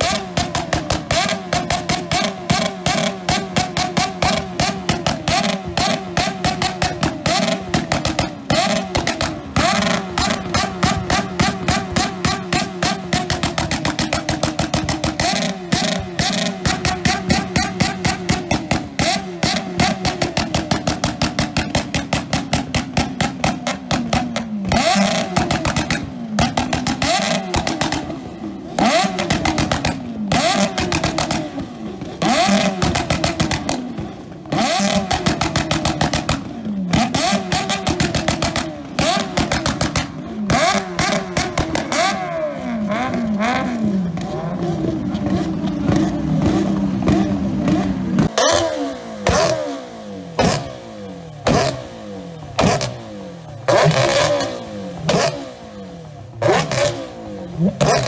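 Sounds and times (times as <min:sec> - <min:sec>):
exhaust pops: 0:00.0 - 0:49.6, 0:50.3 - 0:53.0
motorcycle engines revving: 0:00.0 - 0:58.0.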